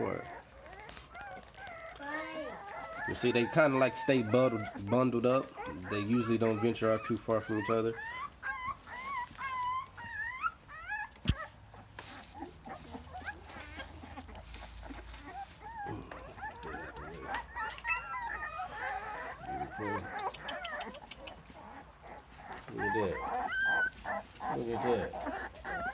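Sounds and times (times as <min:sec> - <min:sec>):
puppies whimpering and squeaking: 0:00.0 - 0:25.9.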